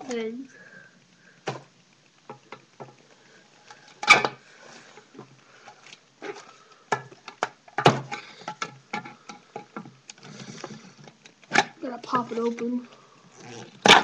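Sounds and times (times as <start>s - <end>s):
paint cans clicking and knocking: 1.4s - 4.4s, 5.0s - 12.7s, 13.4s - 14.0s.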